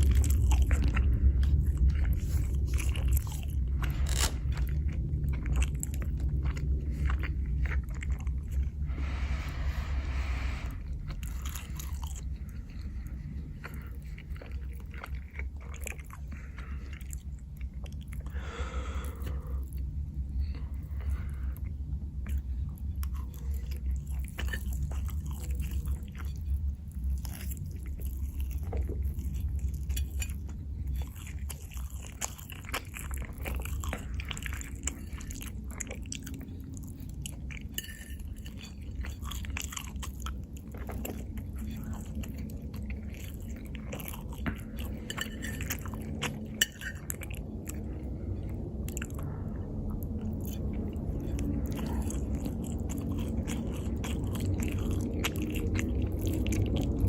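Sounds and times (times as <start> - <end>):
person chewing and biting: 0.0 - 57.0
steady low hum: 0.0 - 57.0.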